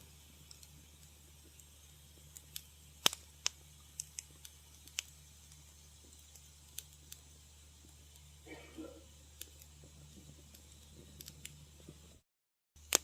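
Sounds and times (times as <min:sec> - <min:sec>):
steady low hum: 0:00.0 - 0:12.2
wood fire crackling: 0:00.0 - 0:12.2, 0:12.8 - 0:13.0.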